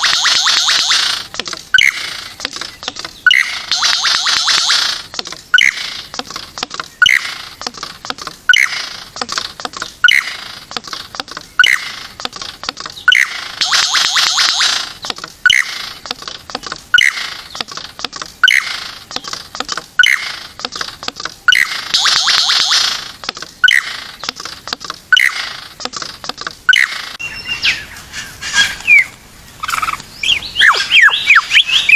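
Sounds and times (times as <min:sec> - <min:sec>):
rapid rattling bird trill: 0:00.0 - 0:31.9.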